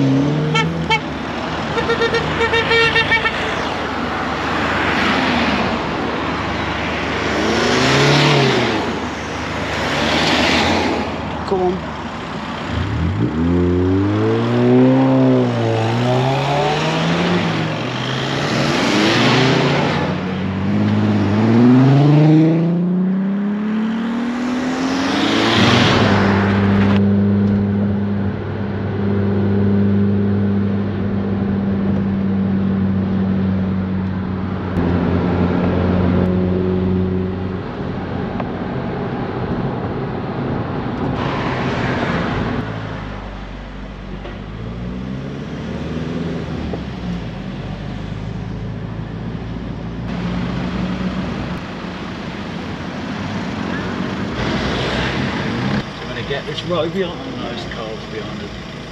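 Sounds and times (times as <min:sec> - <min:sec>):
engine and road noise drone: 0:00.0 - 0:58.9.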